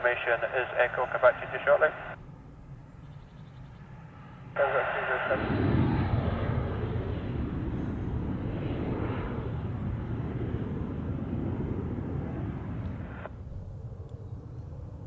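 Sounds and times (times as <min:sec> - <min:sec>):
jet engine roar: 0:00.0 - 0:02.9, 0:03.6 - 0:15.0.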